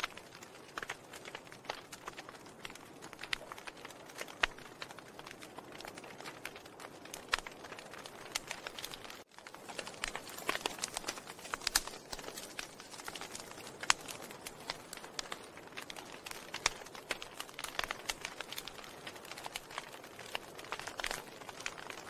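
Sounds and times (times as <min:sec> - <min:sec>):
fire popping: 0:00.0 - 0:22.0
wood fire crackling: 0:00.0 - 0:22.0.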